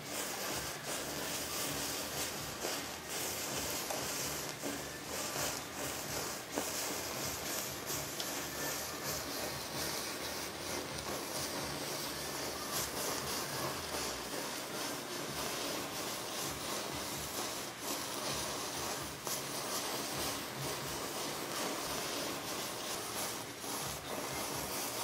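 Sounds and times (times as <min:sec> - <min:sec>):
match heads crackling: 0:00.0 - 0:25.0
matches burning with hiss: 0:00.0 - 0:25.0.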